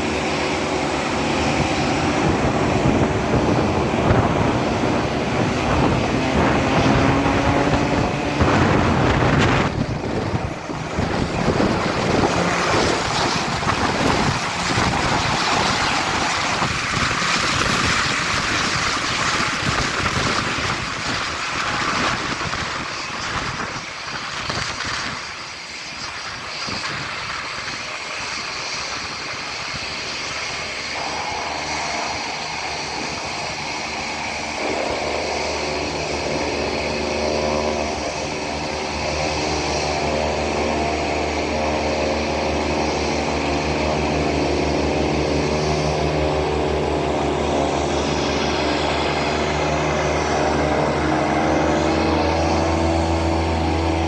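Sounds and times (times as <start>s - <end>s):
loud wind rush: 0.0s - 54.0s
propeller aircraft engines droning: 0.0s - 54.0s.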